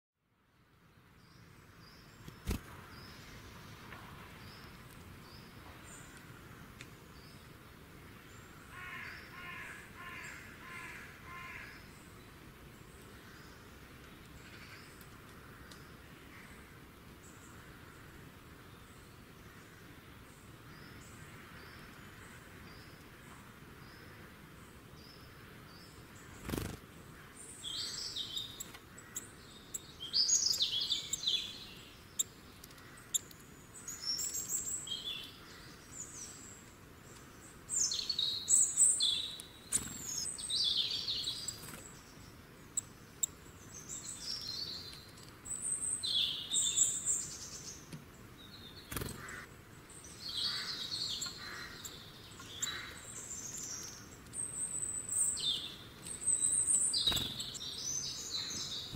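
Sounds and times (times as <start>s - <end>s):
faint outdoor background: 0.2s - 58.9s
small birds chirping: 0.9s - 58.9s.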